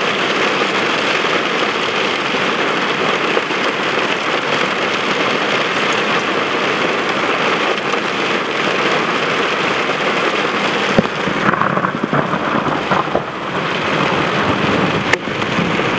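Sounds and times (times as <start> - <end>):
heavy rain: 0.0 - 15.9.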